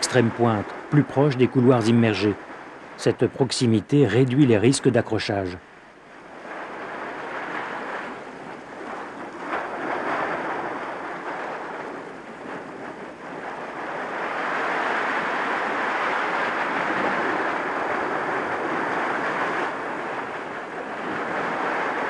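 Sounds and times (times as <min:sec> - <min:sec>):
sea surf washing over rocks: 0:00.0 - 0:22.0.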